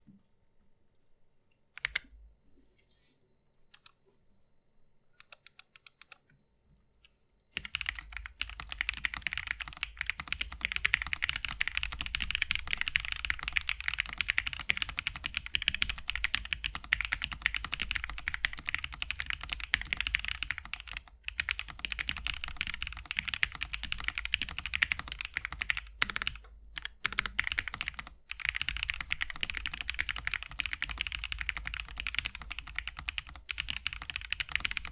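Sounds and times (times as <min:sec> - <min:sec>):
typing on mechanical keyboard: 0:01.8 - 0:02.1, 0:05.2 - 0:06.2, 0:07.6 - 0:34.9.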